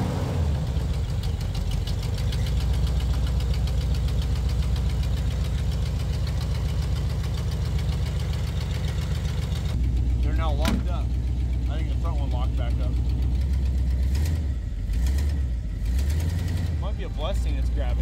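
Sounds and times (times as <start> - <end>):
car engine idling with ticking: 0.1 - 18.0.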